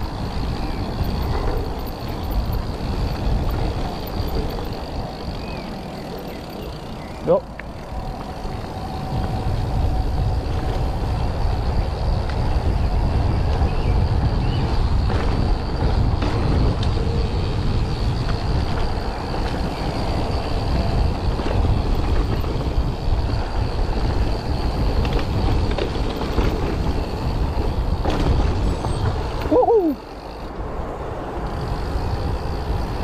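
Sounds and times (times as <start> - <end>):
bike knocks and rattles: 0.0 - 30.5
bike tyres rolling on gravel: 0.0 - 33.0
wind buffeting microphone: 0.0 - 33.0.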